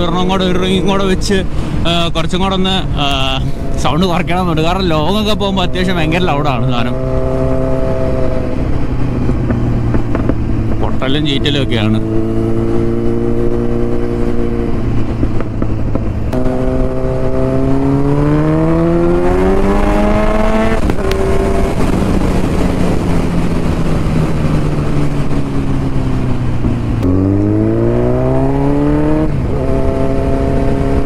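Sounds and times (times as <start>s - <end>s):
motorcycle engine accelerating: 2.6s - 31.0s.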